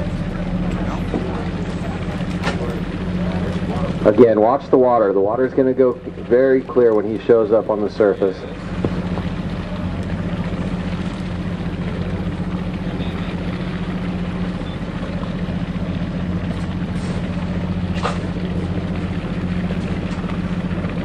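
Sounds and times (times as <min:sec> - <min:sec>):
boat engine humming: 0:00.0 - 0:21.0
wind and water rushing: 0:00.0 - 0:21.0.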